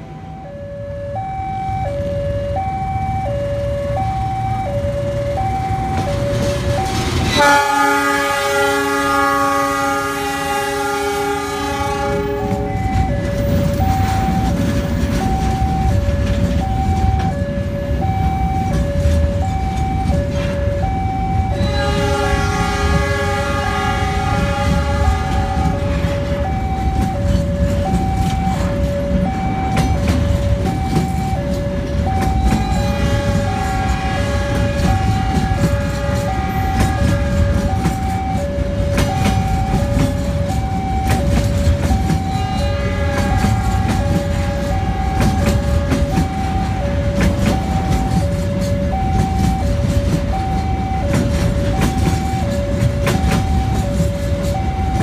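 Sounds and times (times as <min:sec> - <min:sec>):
level-crossing alarm ding-dong: 0:00.0 - 0:10.6, 0:11.2 - 0:23.0, 0:24.3 - 0:55.0
freight train wheels rumbling: 0:00.0 - 0:55.0.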